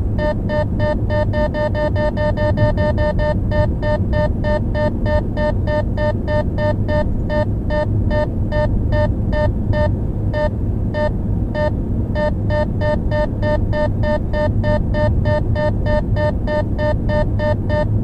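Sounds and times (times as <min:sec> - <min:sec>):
radar detector beeping: 0:00.2 - 0:18.0.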